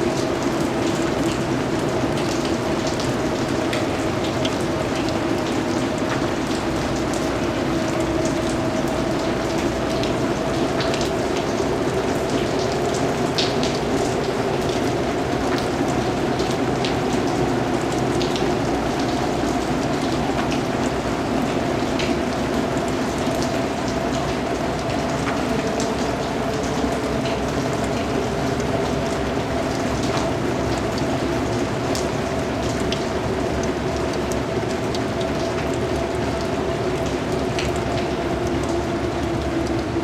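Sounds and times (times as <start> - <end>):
rain pattering on hard surfaces: 0.0 - 40.0
sharp raindrop ticks: 0.0 - 40.0.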